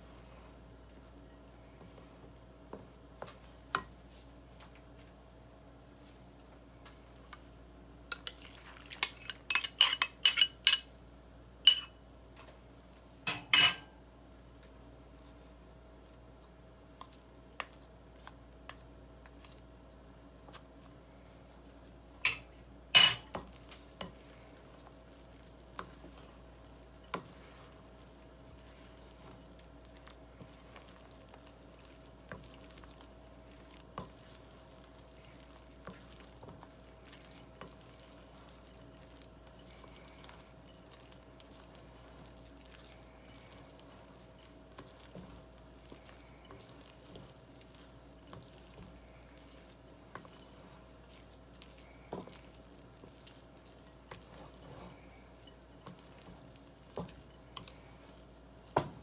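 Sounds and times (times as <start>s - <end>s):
wooden spoon stirring sticky dough: 0.0s - 10.8s, 14.3s - 59.0s.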